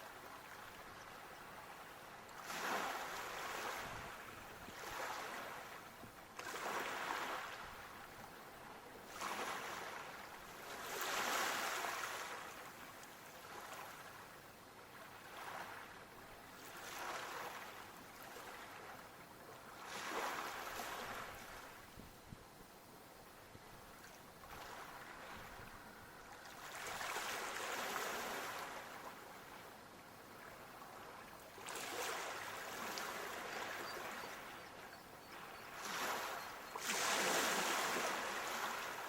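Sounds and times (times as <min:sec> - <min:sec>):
small waves breaking: 0:00.0 - 0:21.9, 0:23.8 - 0:39.0.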